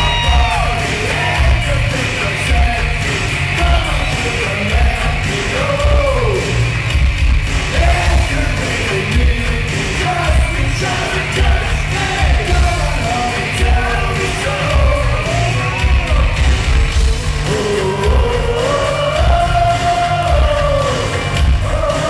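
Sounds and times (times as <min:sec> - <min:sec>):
live industrial rock band: 0:00.0 - 0:22.0
vocalists singing and shouting: 0:00.0 - 0:22.0.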